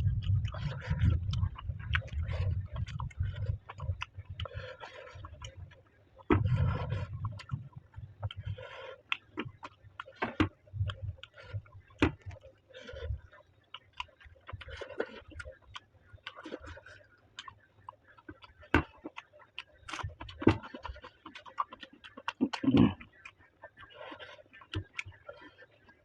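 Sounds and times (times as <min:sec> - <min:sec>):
person chewing with wet clicks: 0:00.0 - 0:26.0.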